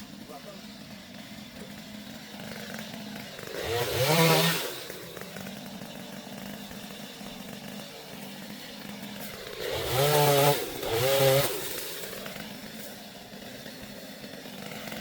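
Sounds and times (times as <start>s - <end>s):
chainsaw idling and revving: 0.0s - 15.0s.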